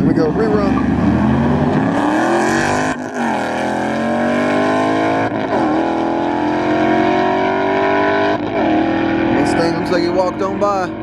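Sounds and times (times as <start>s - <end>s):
drag racing cars accelerating: 0.0s - 11.0s
engine upshifts: 0.0s - 11.0s.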